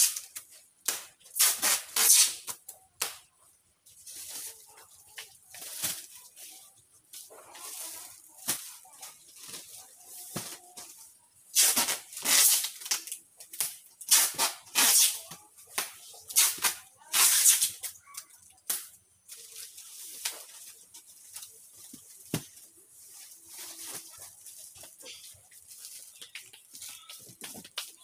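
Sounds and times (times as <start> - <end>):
plastic packs rustling and crinkling: 3.8 - 28.0.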